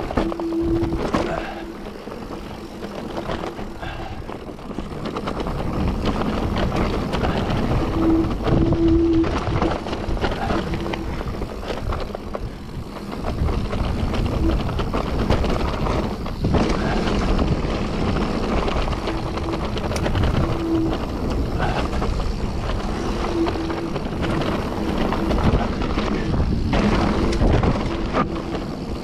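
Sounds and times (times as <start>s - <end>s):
bike rattling over rough ground: 0.0s - 29.0s
whining tone: 0.0s - 29.0s.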